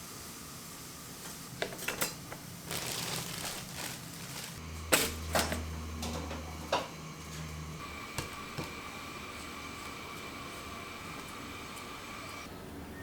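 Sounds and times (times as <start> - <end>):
appliance humming: 1.2 - 12.5.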